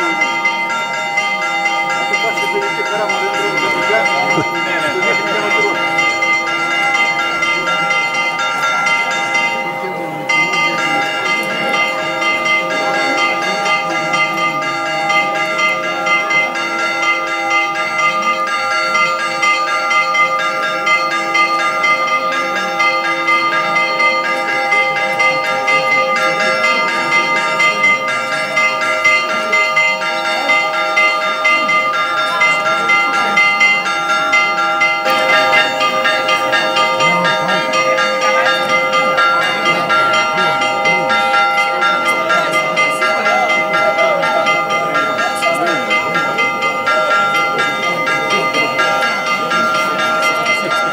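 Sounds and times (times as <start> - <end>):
church bells pealing rapidly: 0.0 - 50.9.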